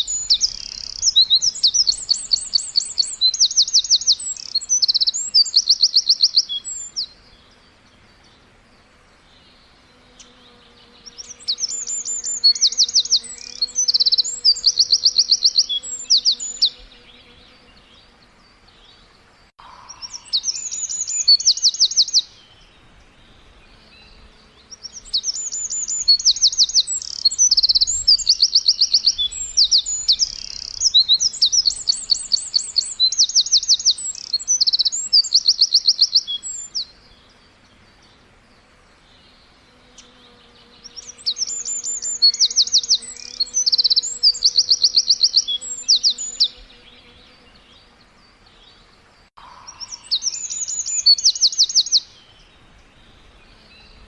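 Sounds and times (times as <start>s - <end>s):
songbird chirping: 0.0s - 54.0s.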